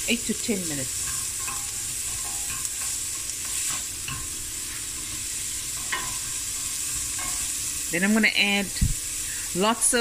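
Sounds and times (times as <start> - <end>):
vegetables sizzling in a pot: 0.0 - 10.0.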